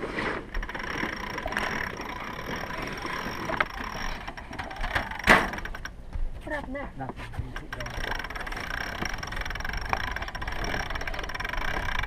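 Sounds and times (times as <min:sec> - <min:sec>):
winch ratcheting clicks: 0:00.5 - 0:06.0, 0:07.5 - 0:12.0.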